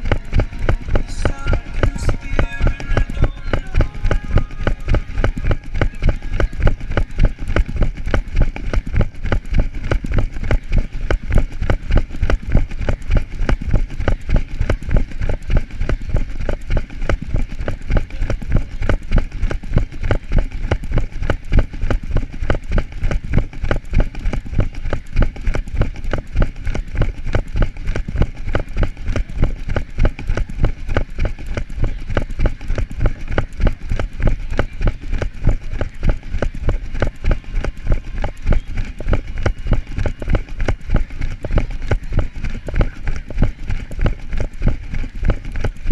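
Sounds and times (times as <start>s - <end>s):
running footsteps on asphalt: 0.0s - 45.9s.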